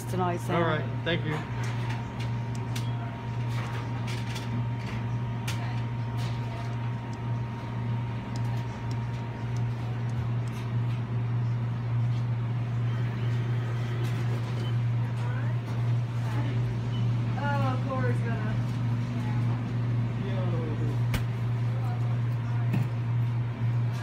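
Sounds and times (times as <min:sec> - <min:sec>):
kitchen equipment humming: 0:00.0 - 0:24.0.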